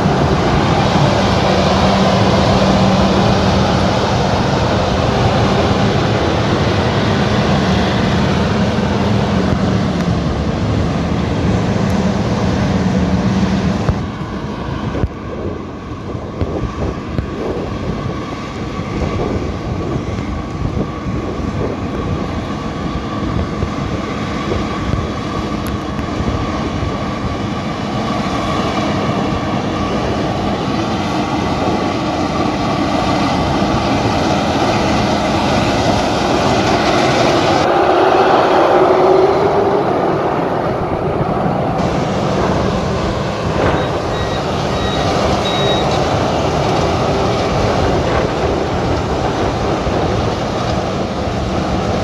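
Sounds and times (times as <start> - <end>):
large engine droning: 0.0 - 52.0.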